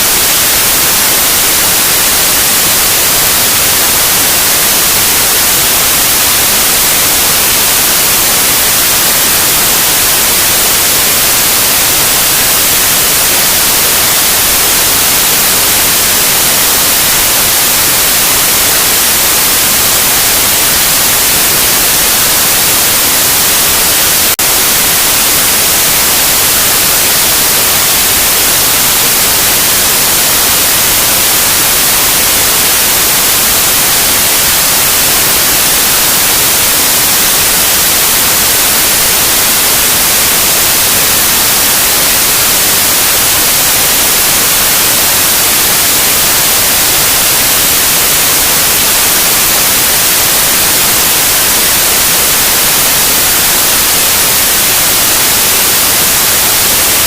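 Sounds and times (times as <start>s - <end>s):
loud white noise hiss: 0.0s - 57.0s.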